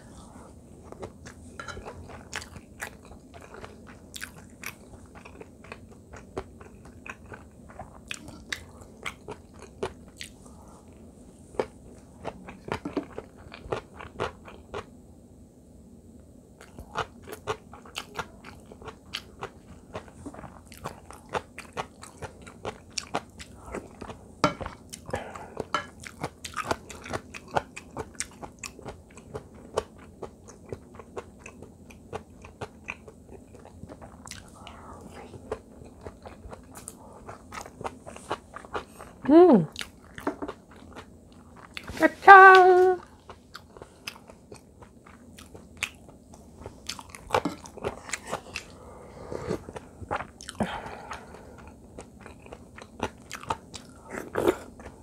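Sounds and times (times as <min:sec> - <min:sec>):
chewing and crunching food: 0:00.0 - 0:15.0, 0:16.6 - 0:55.0.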